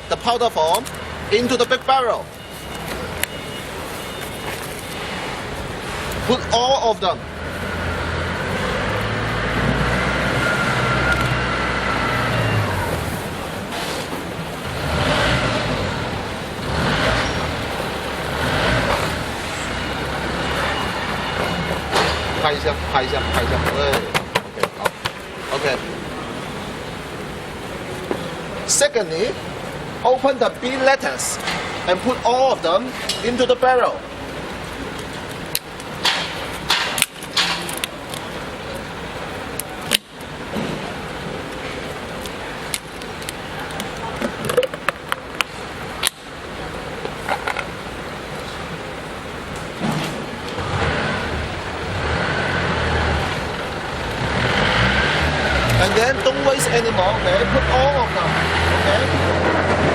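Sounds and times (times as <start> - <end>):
steady background noise: 0.0 - 59.9.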